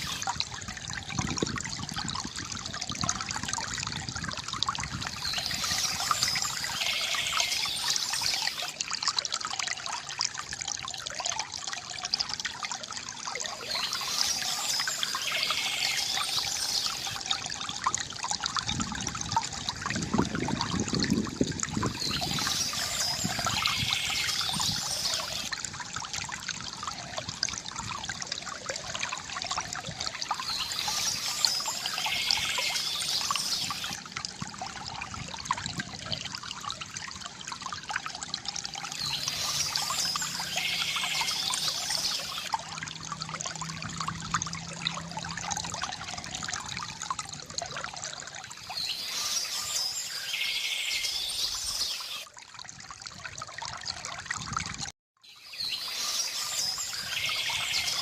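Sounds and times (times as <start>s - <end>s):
water trickling from bamboo fountain: 0.0s - 58.0s.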